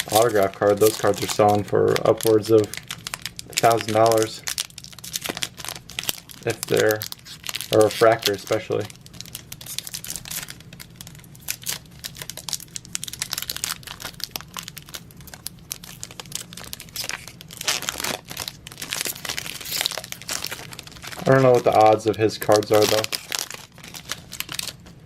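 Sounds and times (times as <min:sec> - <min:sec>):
pack wrapper crinkling: 0:00.0 - 0:25.0.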